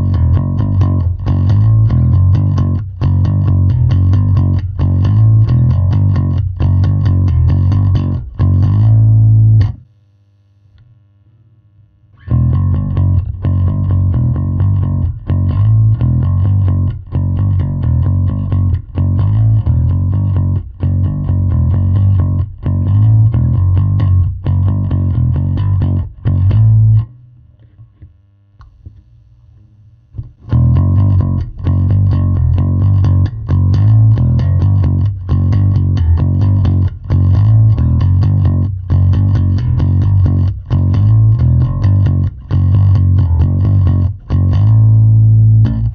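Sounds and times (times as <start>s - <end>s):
electric bass riff: 0.0s - 9.9s, 12.2s - 28.1s, 30.1s - 45.9s.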